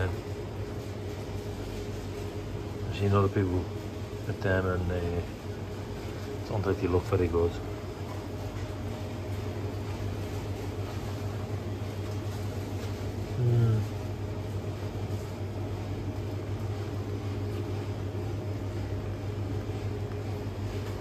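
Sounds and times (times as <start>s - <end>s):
freezers humming: 0.0s - 21.0s.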